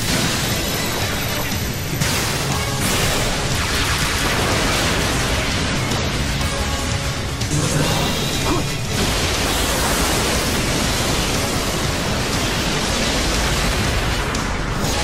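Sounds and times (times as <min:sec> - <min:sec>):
explosions: 0:00.0 - 0:06.3, 0:08.8 - 0:15.0
beam weapons firing: 0:00.0 - 0:06.7, 0:07.4 - 0:15.0
background music: 0:00.0 - 0:15.0.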